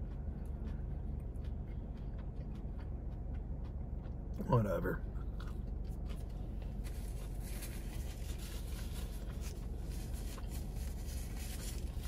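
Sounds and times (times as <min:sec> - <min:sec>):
faint rustles and ticks: 0:00.0 - 0:12.0
low background hum: 0:00.0 - 0:12.0.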